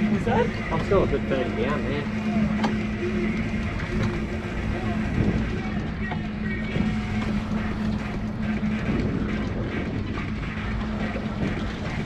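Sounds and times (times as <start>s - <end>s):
outboard engine humming: 0.0s - 12.0s
wind buffeting microphone: 0.0s - 12.0s.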